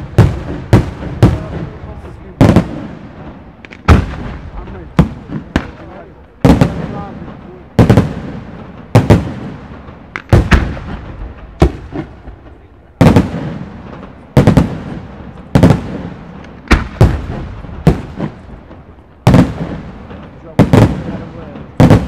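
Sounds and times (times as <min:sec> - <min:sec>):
firework shells bursting: 0:03.6 - 0:22.0.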